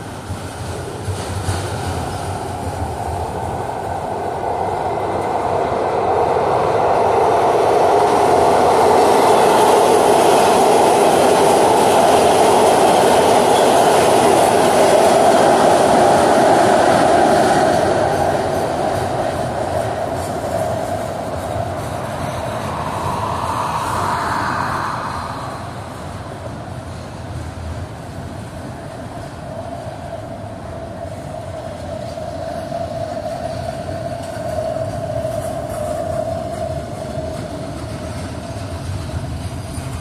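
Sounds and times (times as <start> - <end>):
freight cars rolling on rail: 0.0 - 40.0
train passing: 0.0 - 40.0.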